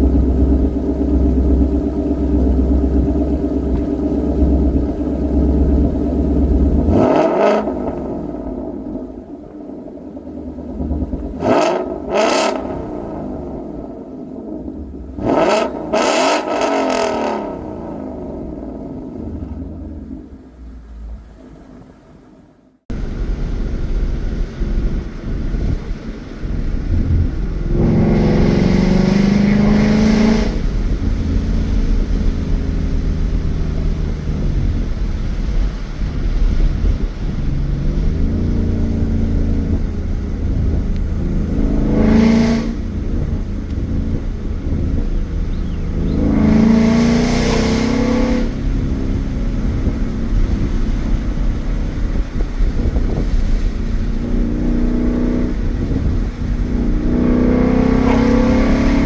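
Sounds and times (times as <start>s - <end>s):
car engine revving hard: 0.0s - 21.4s, 22.9s - 59.0s.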